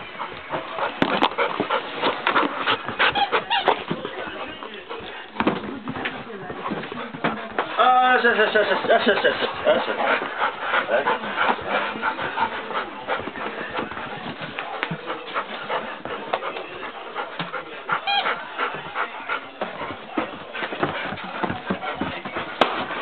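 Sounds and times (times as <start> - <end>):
dogs scuffling at play: 0.0 - 23.0.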